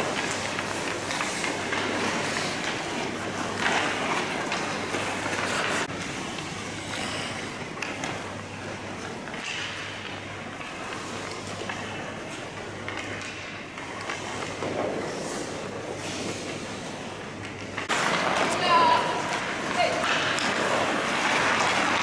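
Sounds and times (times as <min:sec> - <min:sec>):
ice skates scraping on ice: 0:00.0 - 0:08.3, 0:08.9 - 0:17.2, 0:17.8 - 0:22.0.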